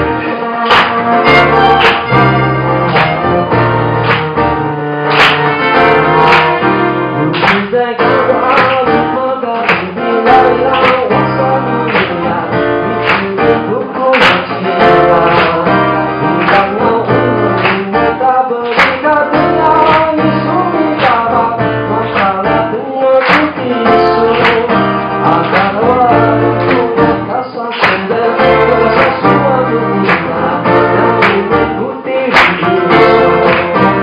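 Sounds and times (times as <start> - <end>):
man singing into a microphone: 0.0 - 1.6, 5.9 - 34.0
strummed acoustic guitar: 0.0 - 34.0.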